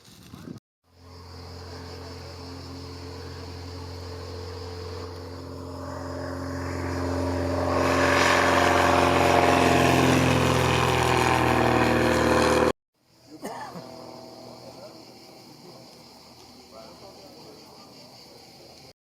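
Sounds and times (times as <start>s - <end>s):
light aircraft engine and propeller: 0.8s - 19.0s.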